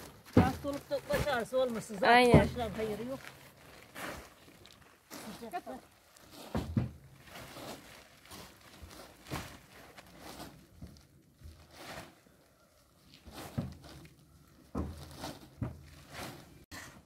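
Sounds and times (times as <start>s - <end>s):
silage rustling into sacks: 0.0s - 16.7s.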